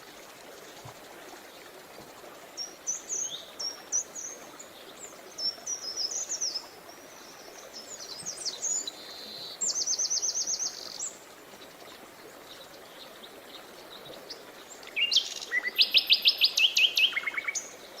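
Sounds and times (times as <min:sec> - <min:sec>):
bird song of quick repeated notes: 0:02.6 - 0:18.0.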